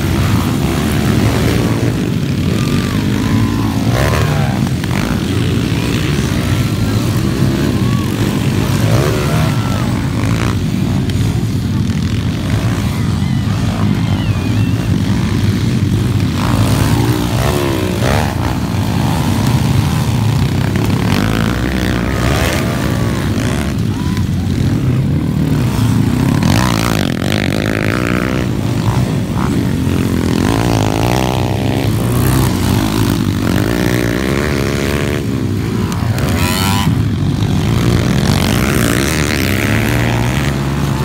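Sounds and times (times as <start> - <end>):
motorcycle engines racing: 0.0 - 41.0.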